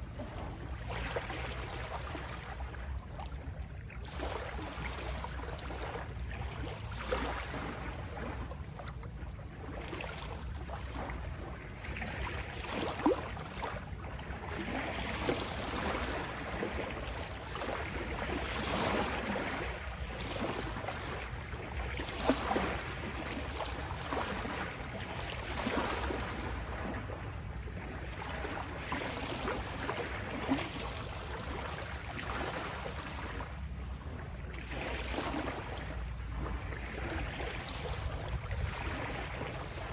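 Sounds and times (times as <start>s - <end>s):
small waves lapping at shore: 0.0s - 39.9s
small water splashes: 0.1s - 39.9s.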